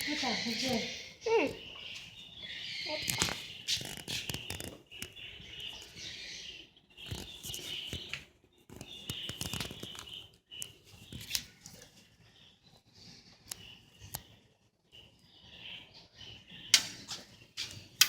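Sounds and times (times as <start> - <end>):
birds chirping and chattering: 0.0 - 18.0.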